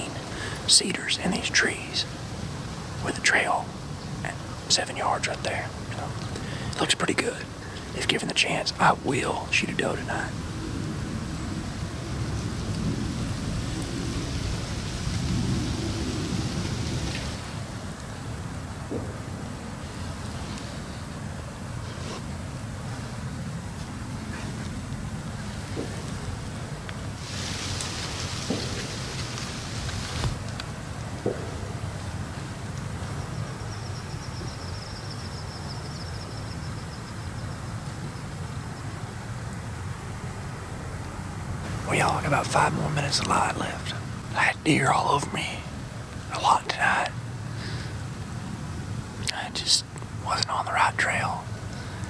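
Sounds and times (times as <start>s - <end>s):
wind hissing through trees: 0.0s - 52.0s.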